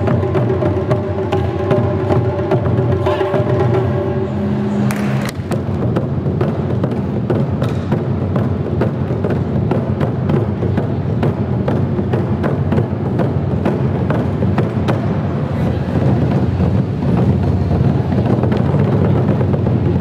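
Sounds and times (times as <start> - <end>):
taiko drums booming: 0.0 - 20.0.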